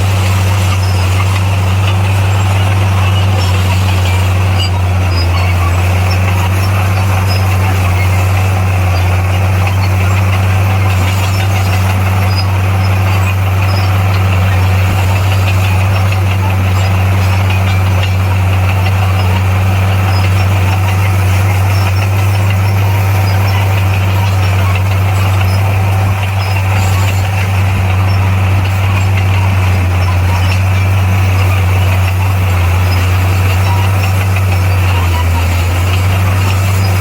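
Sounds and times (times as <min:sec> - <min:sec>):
bulldozer diesel engine droning: 0:00.0 - 0:37.0.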